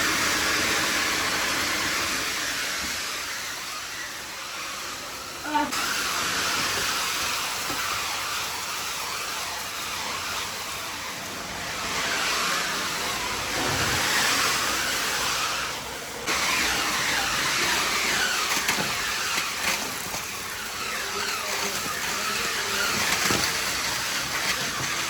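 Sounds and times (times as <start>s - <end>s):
crushed ice rushing: 0.0s - 25.0s
ice crushing machine running: 0.0s - 25.0s.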